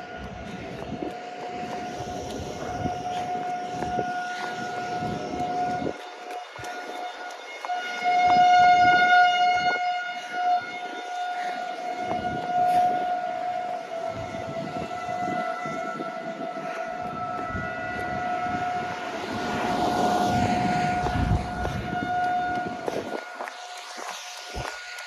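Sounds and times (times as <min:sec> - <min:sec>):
warning siren steady tone: 0:00.0 - 0:25.0.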